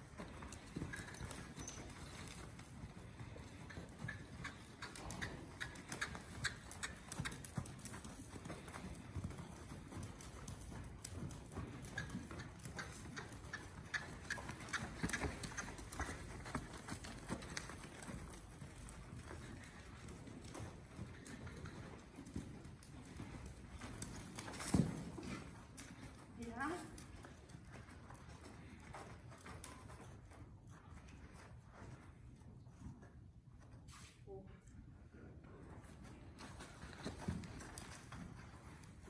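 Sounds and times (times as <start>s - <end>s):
horse hooves on sand: 0.0s - 34.1s, 35.8s - 39.0s.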